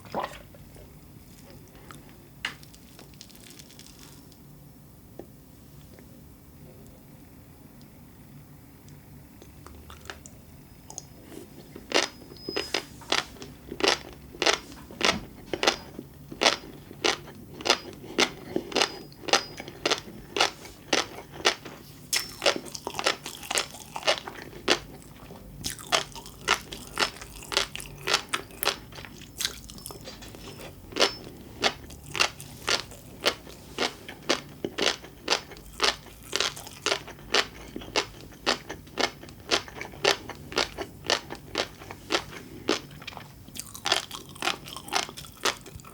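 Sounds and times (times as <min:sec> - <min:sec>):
crunchy chewing: 0:00.2 - 0:04.4, 0:08.9 - 0:45.9.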